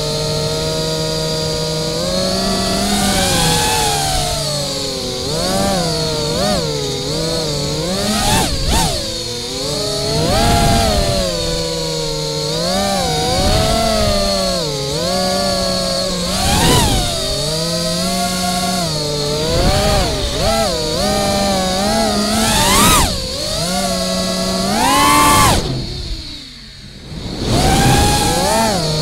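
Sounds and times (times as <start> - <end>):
drone motors whining: 0.0 - 29.0
steady high whine: 0.0 - 29.0.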